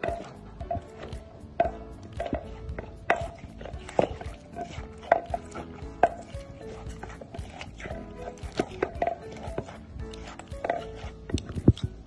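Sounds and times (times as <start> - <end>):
background music: 0.0 - 12.0
pestle pounding in wooden mortar: 0.0 - 12.0.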